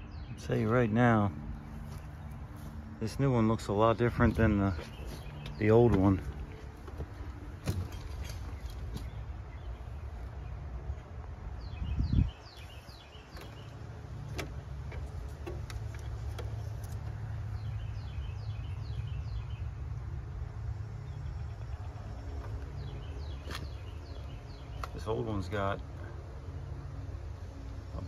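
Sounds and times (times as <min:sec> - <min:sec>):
bird chirping: 0:00.0 - 0:27.1.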